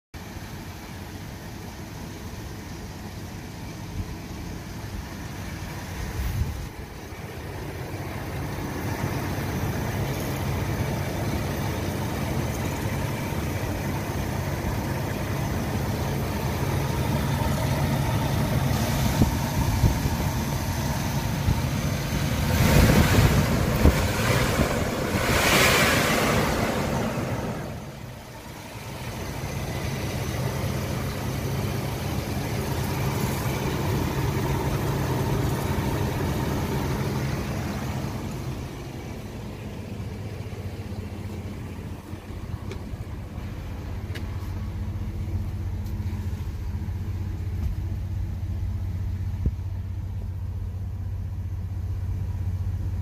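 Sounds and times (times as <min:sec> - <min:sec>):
pickup engine idling: 0:00.1 - 0:53.0.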